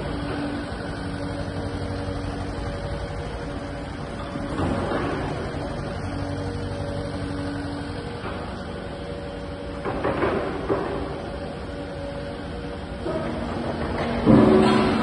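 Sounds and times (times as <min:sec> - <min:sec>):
excavator diesel engine running: 0:00.0 - 0:15.0
hydraulic whine: 0:00.0 - 0:15.0.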